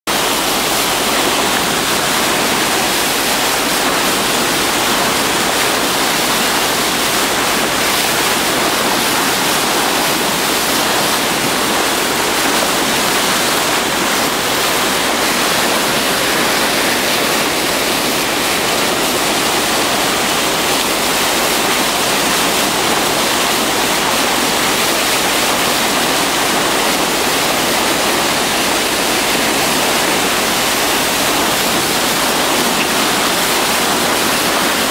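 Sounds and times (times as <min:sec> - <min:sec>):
bow wave rushing along hull: 0:00.1 - 0:34.9.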